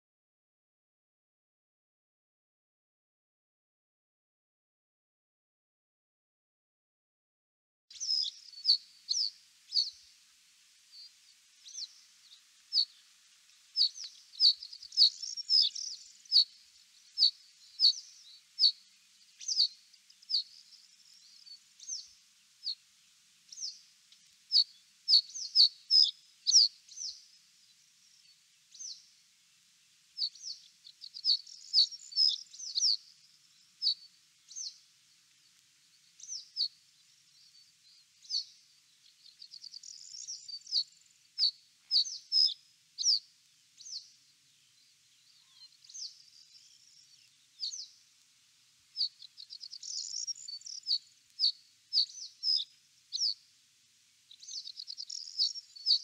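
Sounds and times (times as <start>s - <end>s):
small birds chirping: 7.9s - 56.0s.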